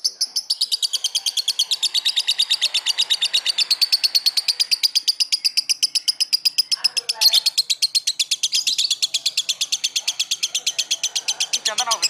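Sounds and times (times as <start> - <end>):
bird chattering trill: 0.0 - 12.0.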